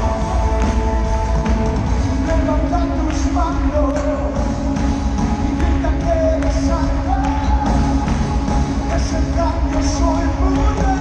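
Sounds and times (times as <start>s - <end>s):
person singing: 0.0s - 11.0s
worship band over sound system: 0.0s - 11.0s.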